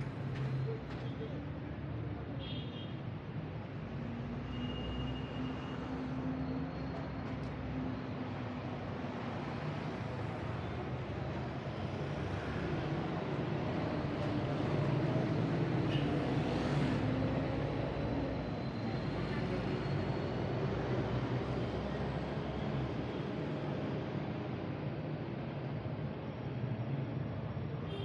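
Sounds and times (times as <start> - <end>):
city street traffic hum: 0.0 - 28.0.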